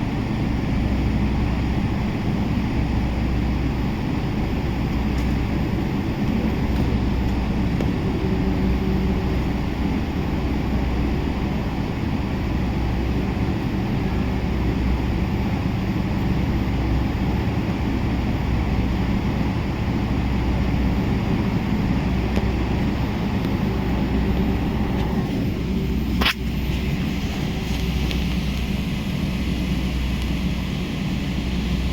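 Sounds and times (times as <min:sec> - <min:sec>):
airplane cabin engine hum: 0:00.0 - 0:31.9.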